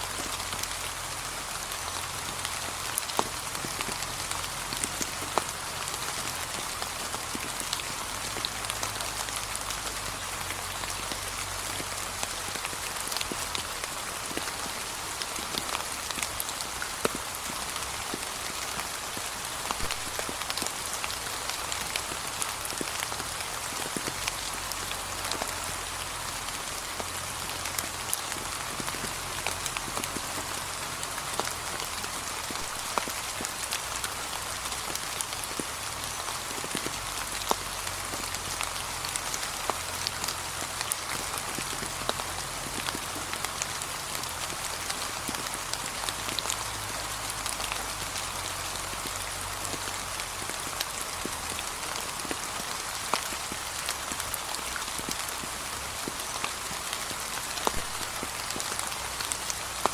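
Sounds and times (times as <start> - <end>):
light rain falling: 0.0 - 59.9
raindrops ticking: 0.0 - 59.9.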